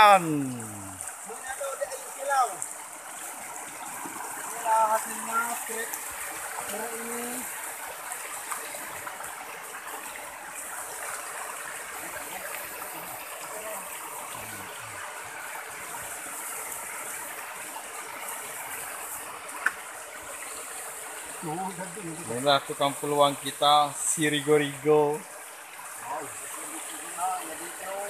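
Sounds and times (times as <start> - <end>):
river running over stones: 0.0 - 28.0.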